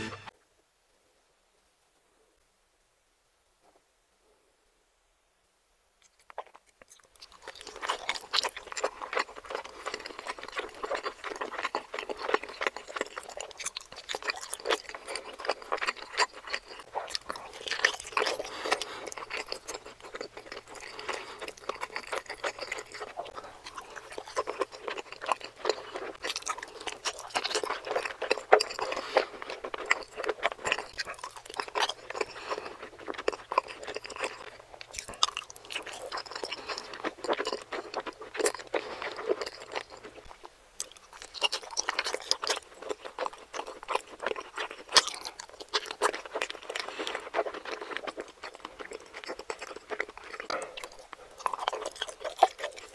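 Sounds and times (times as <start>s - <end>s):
chewing with wet mouth clicks: 6.0s - 52.9s.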